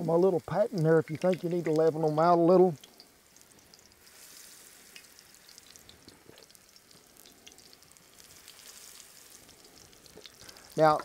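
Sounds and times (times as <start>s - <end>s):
batter frying in lard: 0.0s - 11.0s
small crackles: 0.0s - 11.0s.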